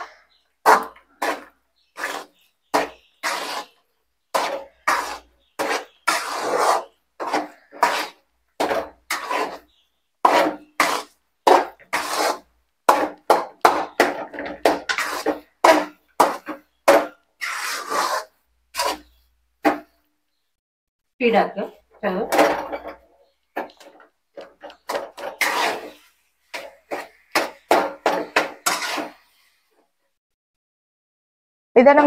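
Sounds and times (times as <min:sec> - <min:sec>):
spoon scraping cooking pan: 0:00.0 - 0:20.0, 0:21.7 - 0:29.5.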